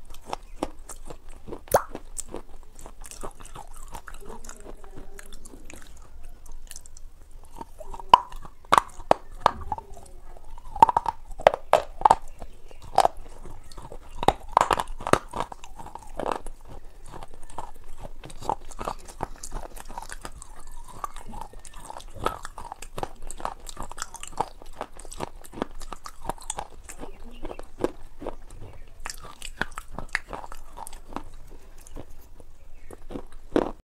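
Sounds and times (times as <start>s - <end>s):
chewing crunchy food: 0.0s - 33.8s.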